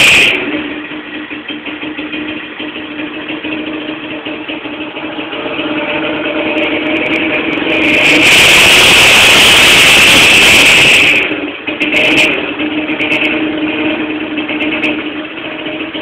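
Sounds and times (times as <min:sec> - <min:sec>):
engine revving and idling: 0:00.0 - 0:16.0
exhaust crackles: 0:00.0 - 0:16.0.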